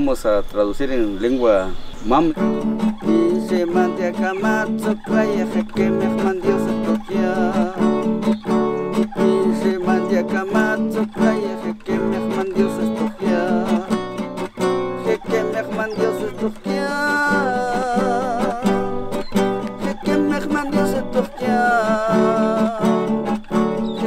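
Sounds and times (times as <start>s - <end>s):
acoustic guitar strumming: 1.8s - 24.0s
man singing: 2.4s - 24.0s.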